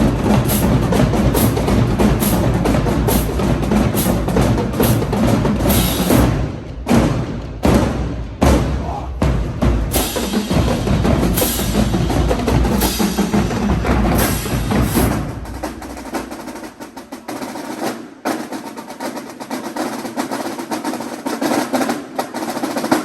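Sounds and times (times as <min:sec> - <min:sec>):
marching drumline: 0:00.0 - 0:23.0
rapid snare and stick hits: 0:00.0 - 0:23.0.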